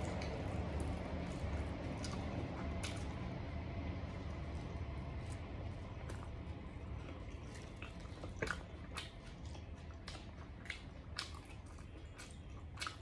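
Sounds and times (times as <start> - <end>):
chewing food: 0.0 - 13.0
low steady hum: 0.0 - 13.0.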